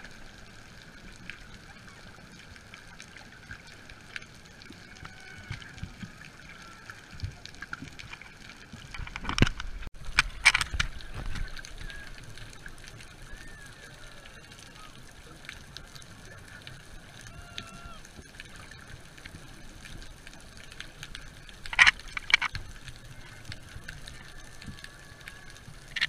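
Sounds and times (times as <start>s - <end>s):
underwater hiss and hum: 0.0s - 26.0s
water sloshing and splashing: 0.0s - 26.0s
faint clicks: 2.2s - 26.0s.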